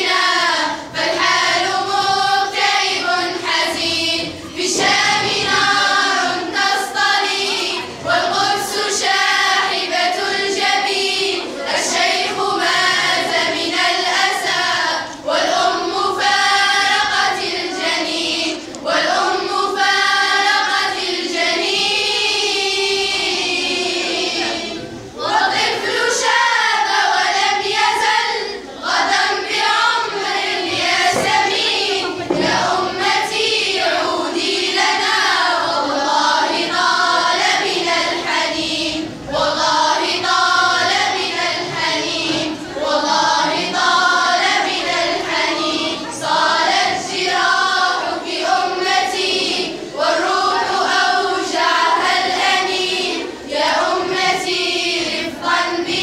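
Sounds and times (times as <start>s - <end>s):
girls choir singing: 0.0s - 56.0s.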